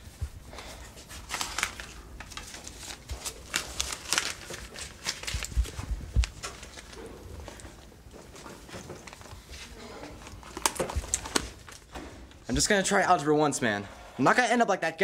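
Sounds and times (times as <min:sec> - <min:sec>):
crinkling and rustling: 0:00.0 - 0:12.7.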